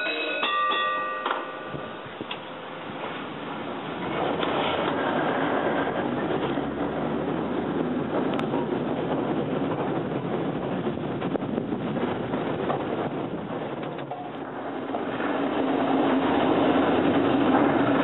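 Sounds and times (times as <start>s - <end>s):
tram wheels rumbling: 0.0s - 18.0s
wind on microphone: 1.4s - 18.0s.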